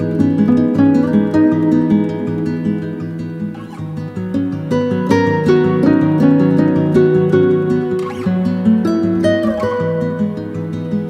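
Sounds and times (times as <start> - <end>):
instrumental music with plucked strings: 0.0 - 11.0.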